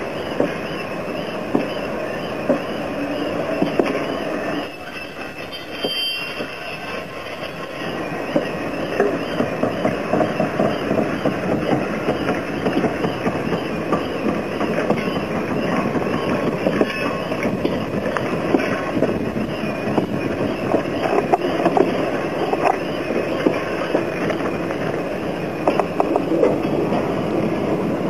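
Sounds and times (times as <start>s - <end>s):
high squeal: 0.0s - 27.7s
train wheel clicks: 0.0s - 28.0s.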